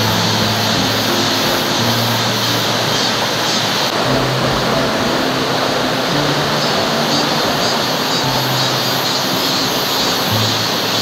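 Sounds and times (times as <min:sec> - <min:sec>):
background music: 0:00.0 - 0:11.0
stream running over stones: 0:00.0 - 0:11.0.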